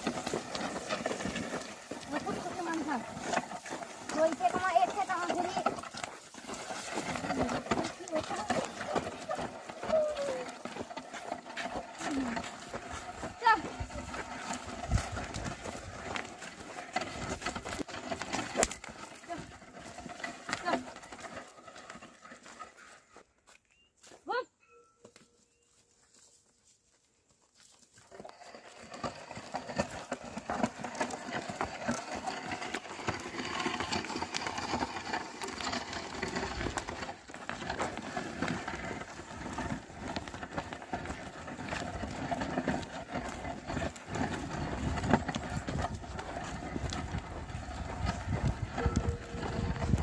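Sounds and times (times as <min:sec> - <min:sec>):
oxen hooves knocking: 0:00.0 - 0:23.4, 0:27.6 - 0:50.0.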